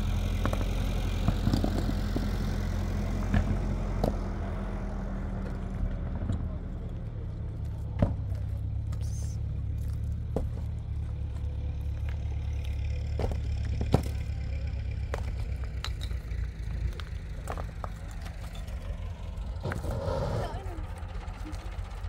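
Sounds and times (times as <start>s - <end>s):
engine running at low revs: 0.0s - 22.0s.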